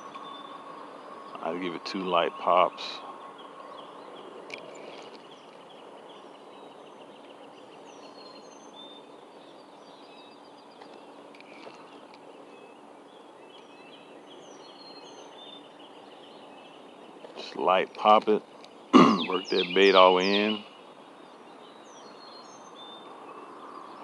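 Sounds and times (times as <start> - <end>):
outdoor background hiss: 0.0 - 24.0
songbirds chirping and whistling: 0.0 - 24.0.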